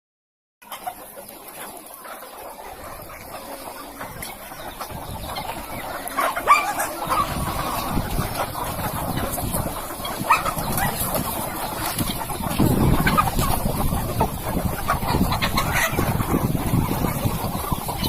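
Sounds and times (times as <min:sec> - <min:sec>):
chickens clucking: 0:00.6 - 0:18.0.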